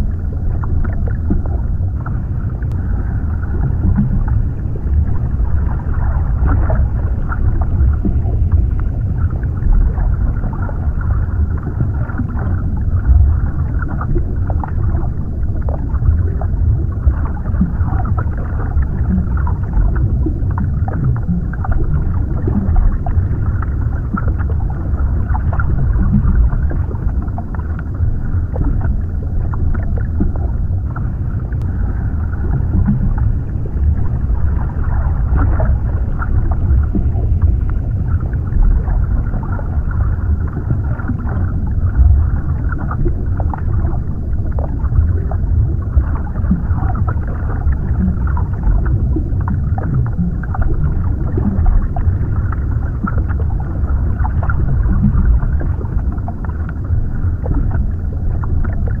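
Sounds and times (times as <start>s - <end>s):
muffled underwater rumble: 0.0s - 59.0s
underwater clicks and crackles: 0.0s - 59.0s.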